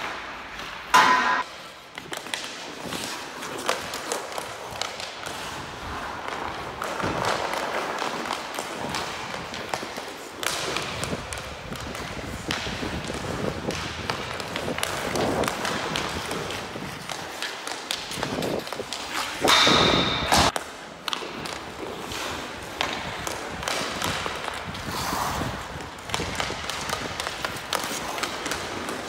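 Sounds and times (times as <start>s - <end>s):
hockey stick tapping puck: 0.0s - 29.0s
ice skates scraping: 0.0s - 29.0s.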